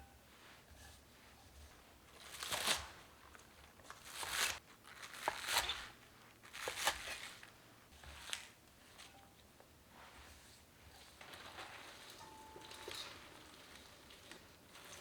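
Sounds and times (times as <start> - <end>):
crinkling rustling handling noise: 0.9 - 15.0.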